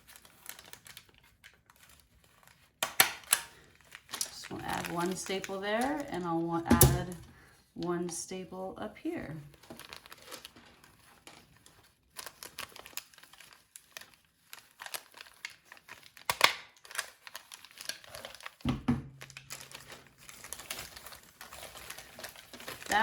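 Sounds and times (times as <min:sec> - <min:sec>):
plastic fringe crinkling: 0:00.0 - 0:08.0, 0:08.6 - 0:23.0.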